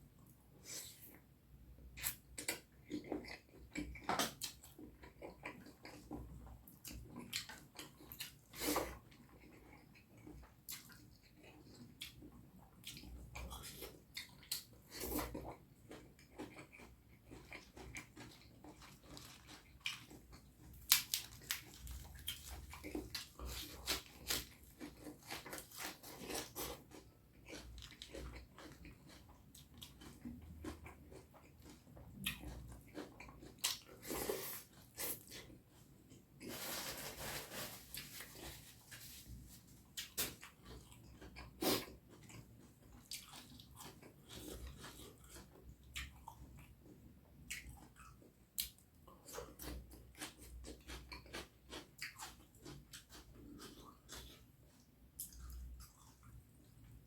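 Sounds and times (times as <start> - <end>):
person chewing food: 0.2 - 36.6, 37.5 - 57.0.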